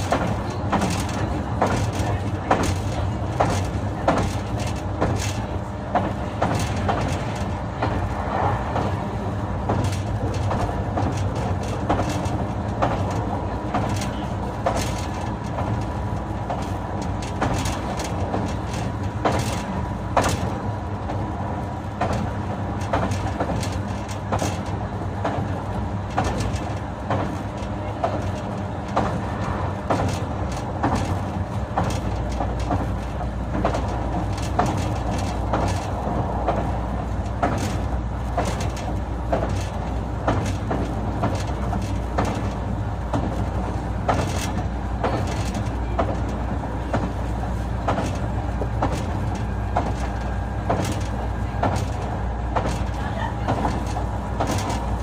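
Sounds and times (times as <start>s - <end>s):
train wheels and motors rumbling: 0.0s - 55.0s.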